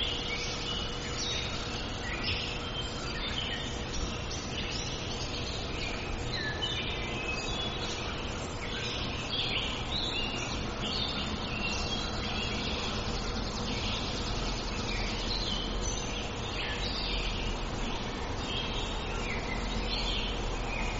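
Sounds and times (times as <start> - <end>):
birds chirping and twittering: 0.0 - 20.9
steady background hiss: 0.0 - 20.9.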